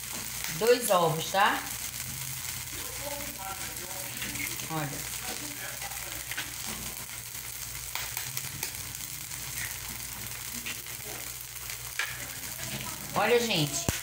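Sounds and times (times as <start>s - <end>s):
butter and garlic sizzling in pan: 0.0s - 14.0s.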